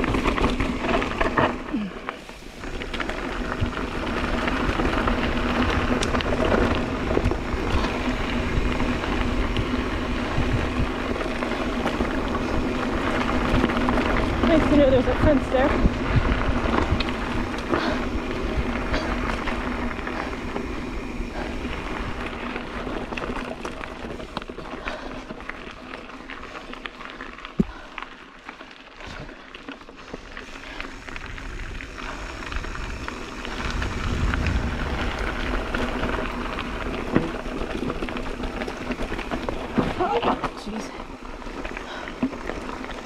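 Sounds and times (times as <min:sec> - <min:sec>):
bike rattling and clicking: 0:00.0 - 0:43.0
bike tyres rolling on gravel: 0:00.0 - 0:43.0.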